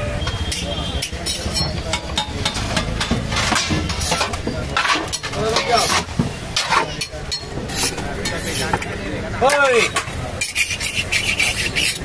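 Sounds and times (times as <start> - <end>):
metal spatula scraping griddle: 0.4 - 1.8, 2.4 - 12.0.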